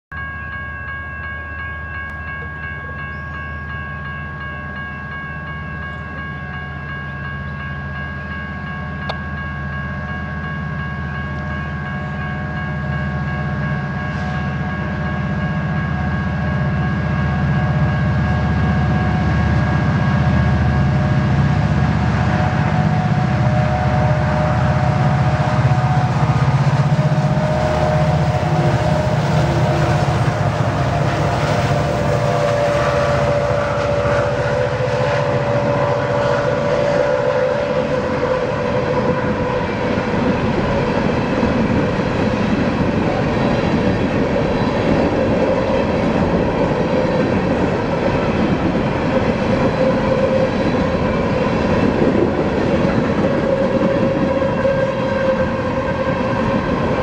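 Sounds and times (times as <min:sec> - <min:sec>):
steady high-pitched tones: 0:00.1 - 0:52.3
locomotive engine rumble: 0:00.2 - 0:57.0.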